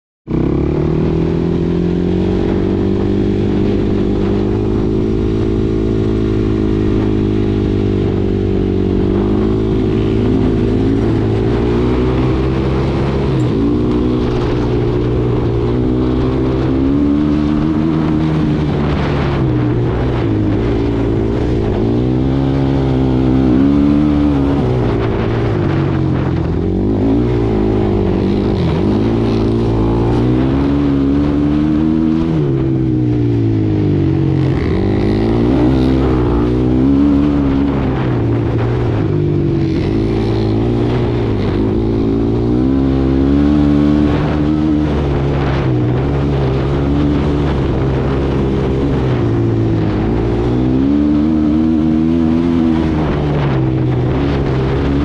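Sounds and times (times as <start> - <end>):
quad bike engine revving: 0.3 - 55.0.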